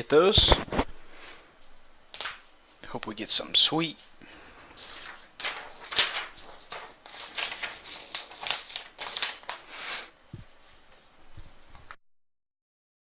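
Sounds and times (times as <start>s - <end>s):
rustling crinkling scrapes: 0.4s - 2.9s, 3.9s - 12.0s.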